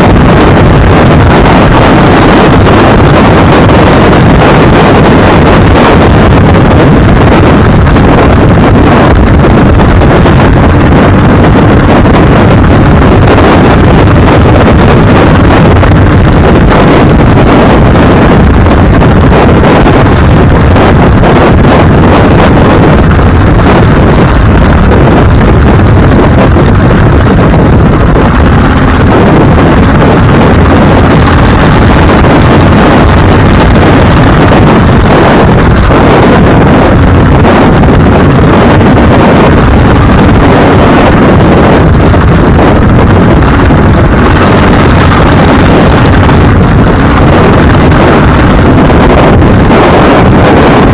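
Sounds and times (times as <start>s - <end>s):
moving vehicle noise: 0.0s - 50.9s
wind buffeting microphone: 0.0s - 50.9s.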